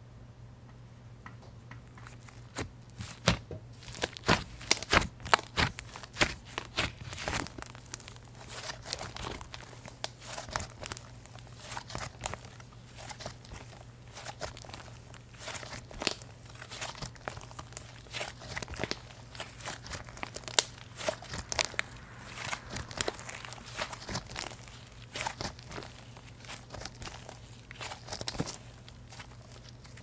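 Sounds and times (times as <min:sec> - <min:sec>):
faint steady hum: 0:00.0 - 0:30.0
slime crackling when kneaded: 0:01.8 - 0:30.0.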